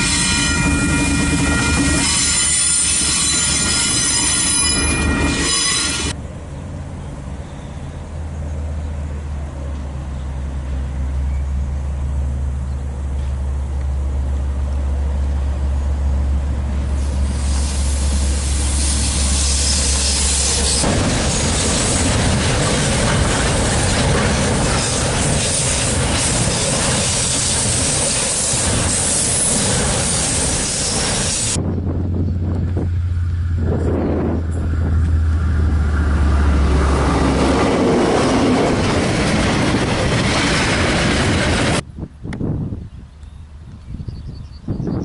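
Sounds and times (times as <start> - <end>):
locomotive engine drone: 0.0 - 42.4
freight train wheels rushing: 0.0 - 42.6.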